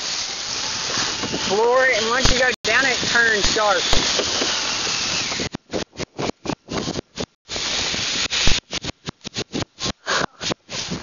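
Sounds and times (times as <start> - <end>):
wind rushing over microphone: 0.8 - 11.0.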